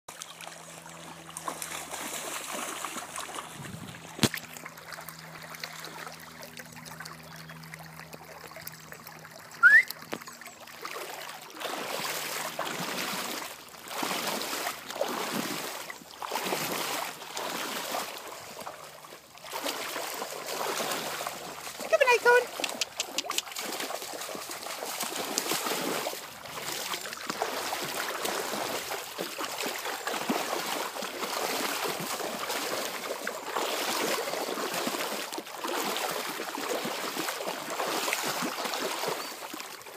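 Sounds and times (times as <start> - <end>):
dog splashing through water: 0.1 - 39.9.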